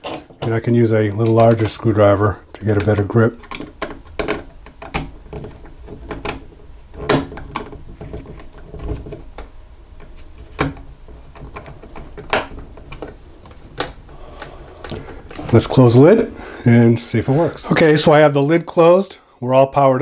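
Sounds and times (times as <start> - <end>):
wire handling: 0.0 - 16.4.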